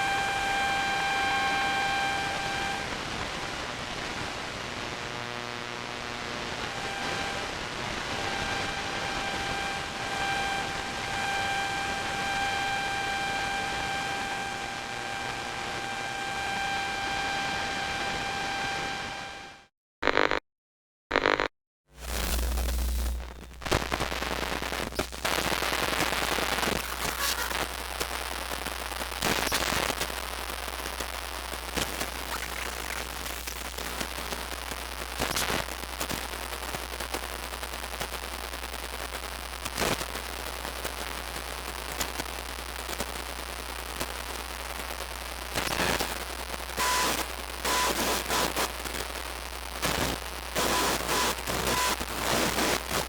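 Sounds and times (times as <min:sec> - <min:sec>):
static crackling hiss: 0:00.0 - 0:19.2, 0:22.0 - 0:53.0.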